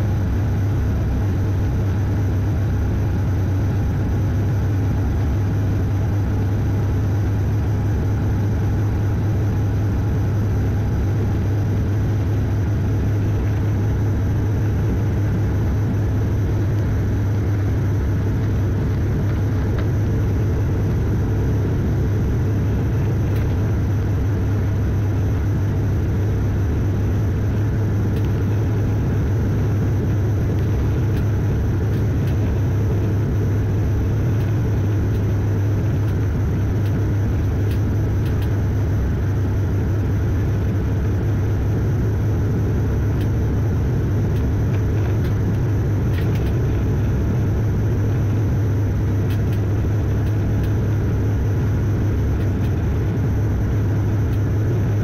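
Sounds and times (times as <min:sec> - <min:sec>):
propeller drone: 0:00.0 - 0:55.0.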